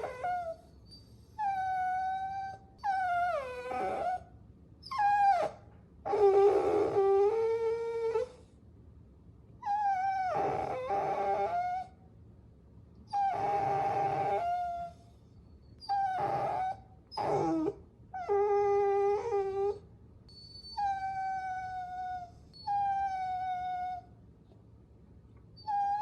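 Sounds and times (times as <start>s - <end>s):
puppy whining: 0.0s - 8.5s, 9.6s - 12.0s, 13.1s - 24.2s, 25.4s - 26.0s.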